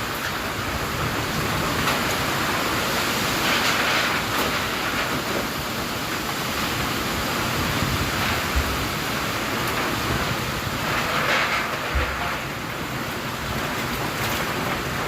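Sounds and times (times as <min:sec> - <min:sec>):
heavy rain and strong wind: 0:00.0 - 0:15.0.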